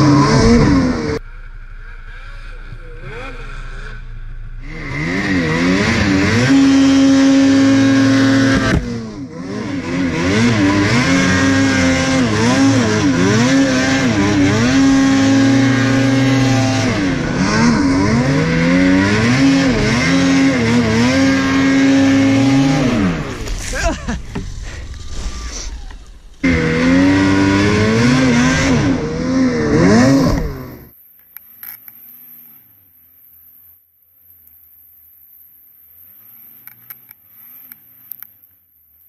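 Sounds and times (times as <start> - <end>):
snowmobile engine revving: 0.0 - 33.8, 35.8 - 38.6.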